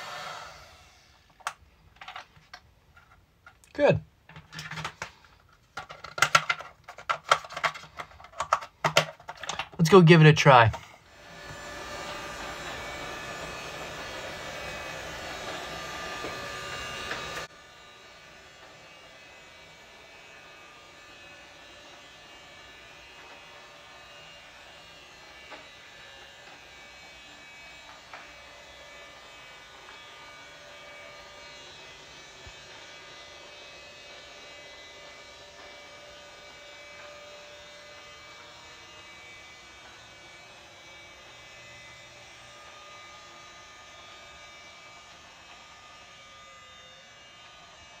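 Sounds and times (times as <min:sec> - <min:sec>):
robot vacuum humming: 0:00.0 - 0:01.5, 0:09.5 - 0:48.0.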